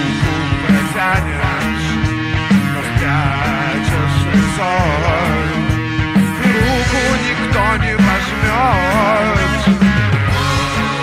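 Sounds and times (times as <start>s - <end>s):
bass: 0.0s - 11.0s
drums steady beat: 0.0s - 11.0s
electric guitar: 0.0s - 11.0s.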